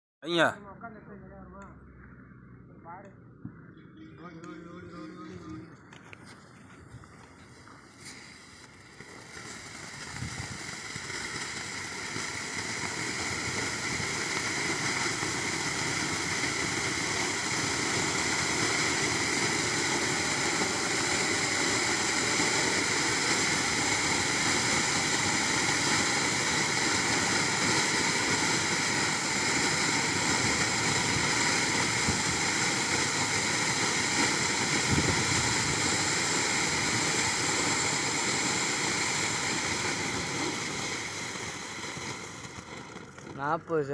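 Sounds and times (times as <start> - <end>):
firework fountain hissing: 4.0 - 43.9.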